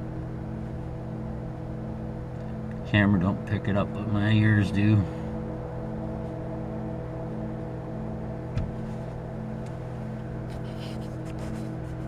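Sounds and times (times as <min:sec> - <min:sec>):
throbbing machinery hum: 0:00.0 - 0:12.0.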